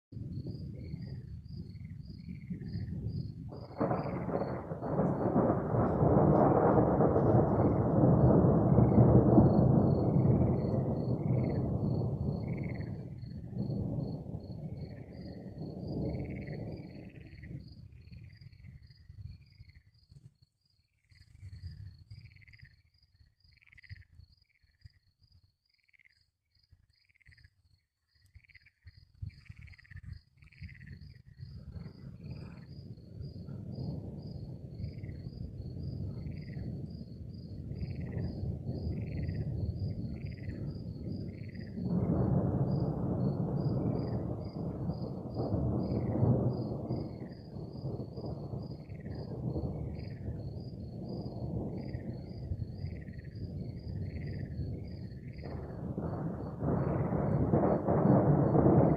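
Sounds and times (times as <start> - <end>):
rolling thunder: 0.2 - 19.6, 31.0 - 58.9
crickets chirping: 0.2 - 58.9.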